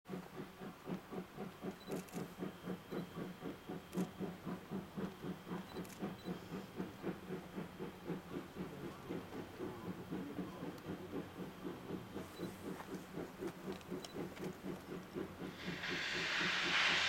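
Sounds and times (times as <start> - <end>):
steam locomotive chuffing: 0.1 - 17.0.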